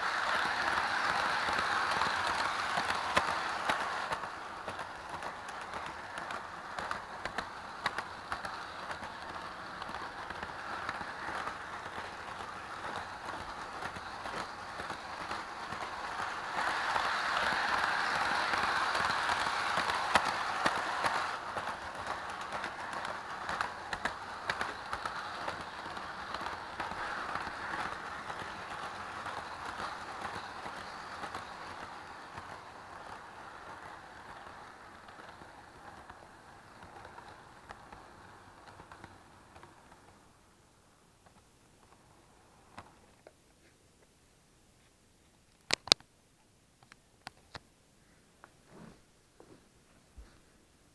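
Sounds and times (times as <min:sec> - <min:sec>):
toy train whirring rattle: 0:00.0 - 0:43.1
toy train clicks: 0:00.0 - 0:43.3, 0:45.5 - 0:46.0.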